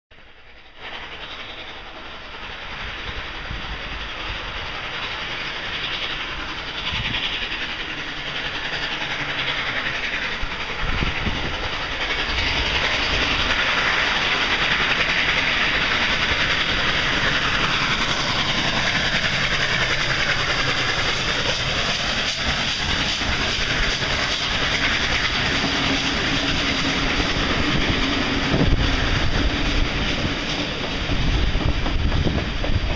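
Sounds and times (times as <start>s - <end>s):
steam locomotive passing: 0.1s - 32.9s
hissing steam: 0.2s - 32.9s
train wheels clacking on rails: 0.2s - 32.9s.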